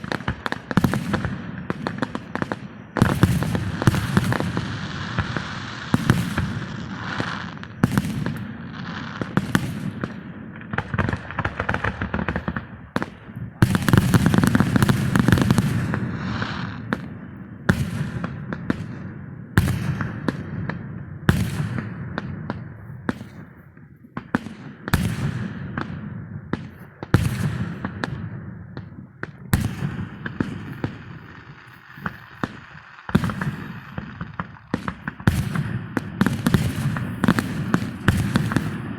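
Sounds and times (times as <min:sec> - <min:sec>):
heavy firework booms: 0:00.0 - 0:23.4, 0:27.2 - 0:38.9
fireworks bangs and crackling: 0:00.0 - 0:38.9.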